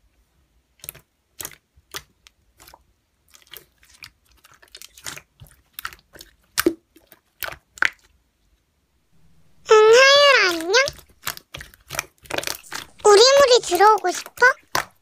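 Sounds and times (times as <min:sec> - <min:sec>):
slime squished by hand: 0:00.8 - 0:08.2, 0:09.9 - 0:15.0.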